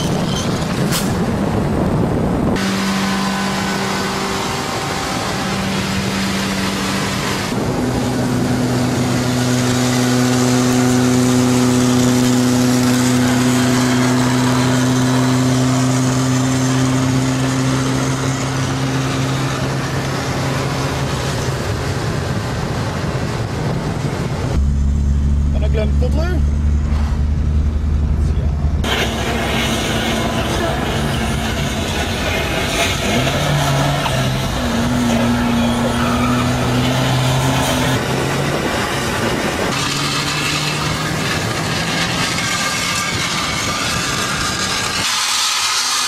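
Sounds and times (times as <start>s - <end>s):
car engine drone: 0.0s - 46.0s
wind and road noise: 0.0s - 46.0s.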